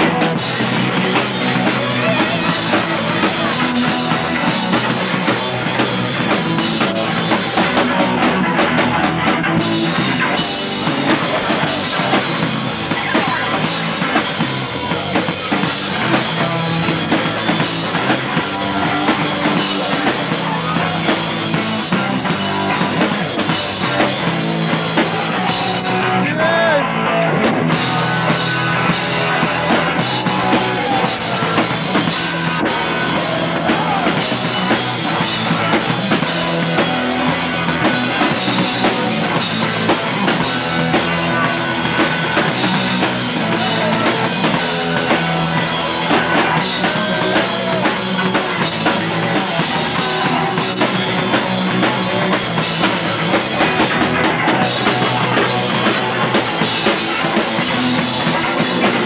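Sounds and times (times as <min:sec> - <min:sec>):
punk rock band playing live: 0:00.0 - 0:59.0.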